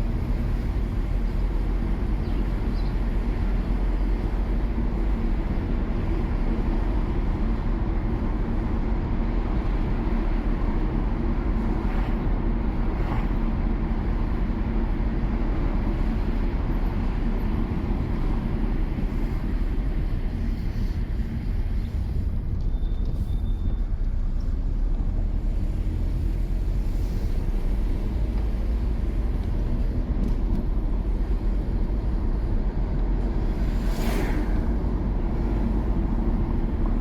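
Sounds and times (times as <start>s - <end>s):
car engine rumble: 0.0s - 37.0s
tyre road noise: 0.0s - 37.0s.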